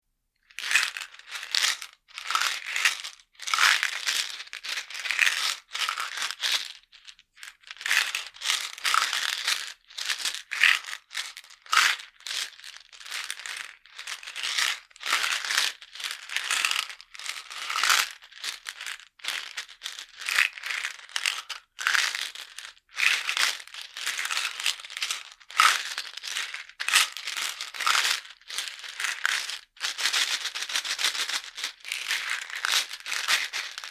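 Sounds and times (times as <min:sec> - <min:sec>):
medicine box shaken: 0:00.6 - 0:33.9
tablets rattling in a jar: 0:00.6 - 0:33.9.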